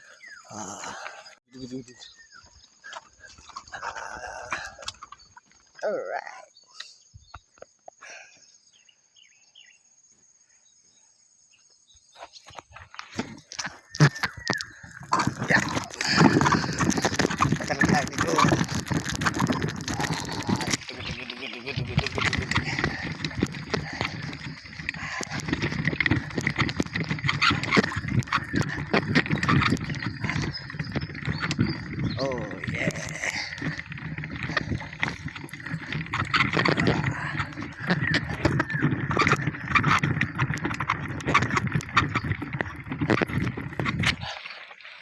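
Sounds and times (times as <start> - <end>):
insect trilling: 0.0 - 8.4, 12.5 - 45.0
bicycle rattling on rough trail: 0.0 - 9.8, 11.6 - 45.0.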